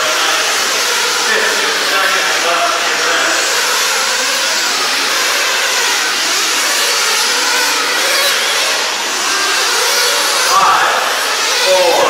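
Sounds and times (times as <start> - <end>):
small engines buzzing at high revs: 0.0 - 12.0.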